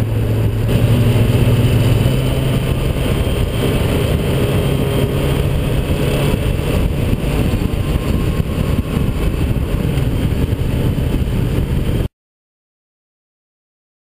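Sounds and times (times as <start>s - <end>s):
motorcycle engine drone: 0.0s - 12.1s
wind rumble on microphone: 0.0s - 12.1s.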